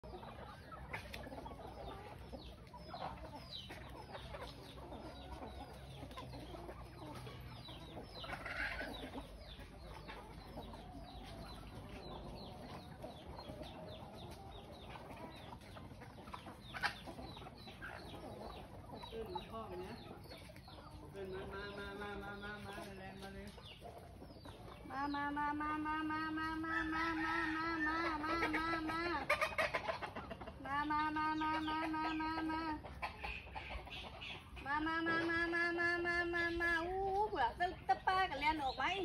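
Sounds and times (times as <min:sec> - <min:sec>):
chickens clucking and calling: 0:00.0 - 0:39.0.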